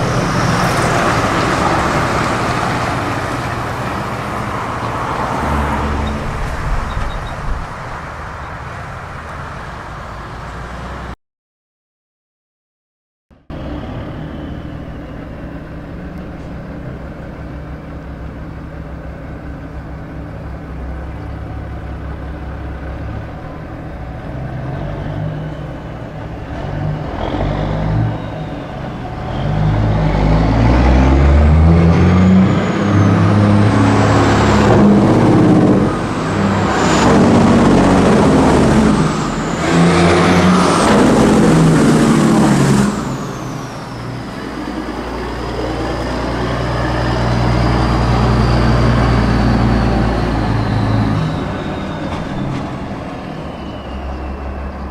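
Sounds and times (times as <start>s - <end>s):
heavy truck engine revving: 0.0s - 11.2s, 13.5s - 54.9s.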